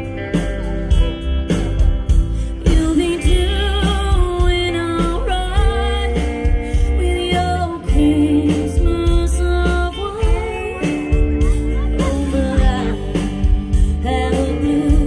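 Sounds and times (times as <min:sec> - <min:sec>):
drums with heavy low beat: 0:00.0 - 0:15.0
electric guitar: 0:00.0 - 0:15.0
person singing with vibrato: 0:02.4 - 0:15.0.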